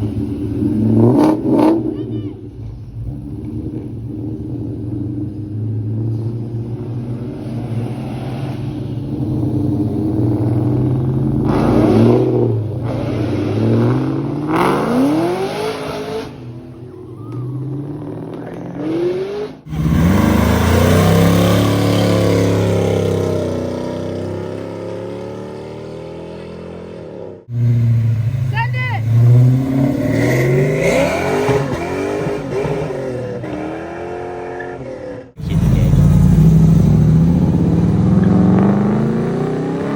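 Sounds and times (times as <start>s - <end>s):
muscle car engines revving: 0.0s - 39.9s.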